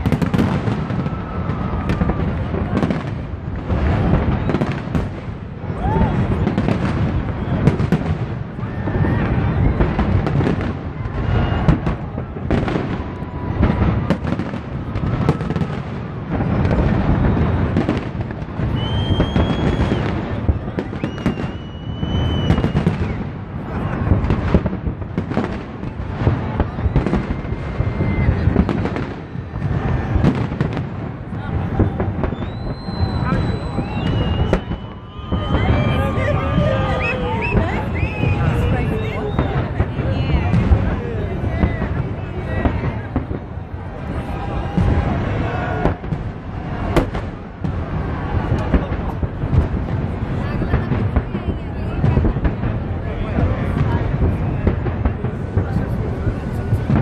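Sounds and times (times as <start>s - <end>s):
high firework whistles: 0.0s - 52.5s
fireworks bursting: 0.0s - 57.0s.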